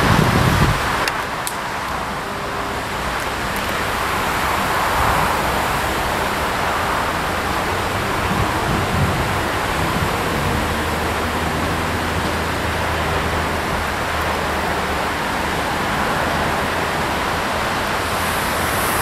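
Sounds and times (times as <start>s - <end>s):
electric train rolling: 0.0s - 19.0s.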